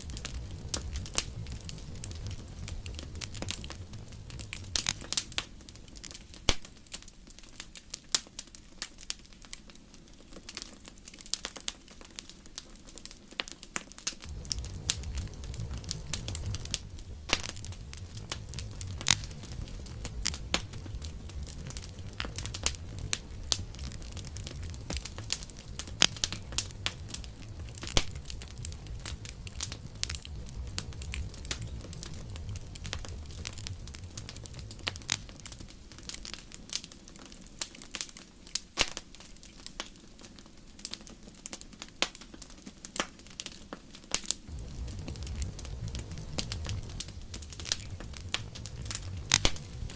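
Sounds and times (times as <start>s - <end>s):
burning wood popping and crackling: 0.0s - 49.9s
low rumble of flames: 0.0s - 49.9s.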